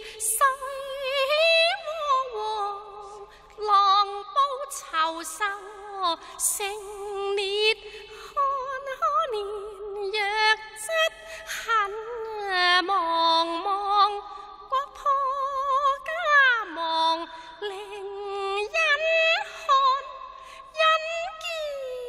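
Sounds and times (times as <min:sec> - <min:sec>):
woman singing opera: 0:00.0 - 0:22.0.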